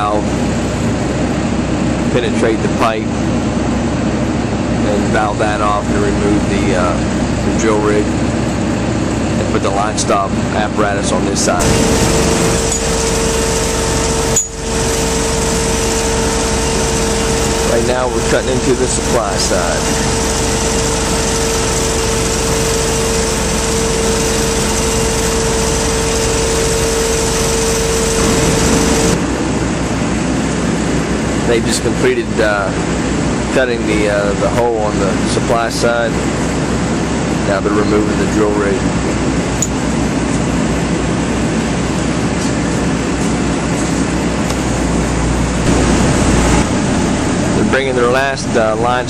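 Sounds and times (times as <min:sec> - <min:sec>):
low hum: 0:00.0 - 0:33.8, 0:38.8 - 0:49.0
drilling rig running: 0:00.0 - 0:49.0
heavy machinery drone: 0:00.0 - 0:49.0.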